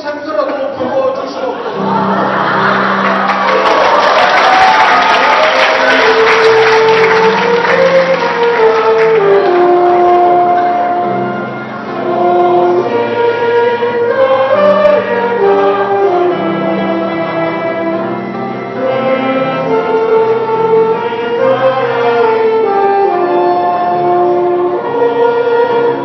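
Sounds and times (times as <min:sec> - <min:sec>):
choir singing a hymn: 0:01.6 - 0:26.0.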